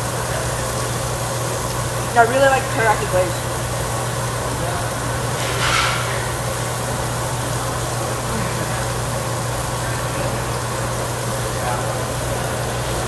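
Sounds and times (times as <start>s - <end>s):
exhaust hood fan humming: 0.0s - 13.0s.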